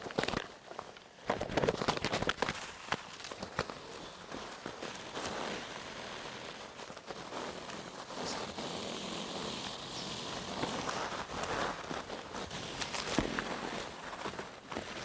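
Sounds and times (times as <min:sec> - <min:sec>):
feathers rustling and swishing: 0:01.6 - 0:15.0.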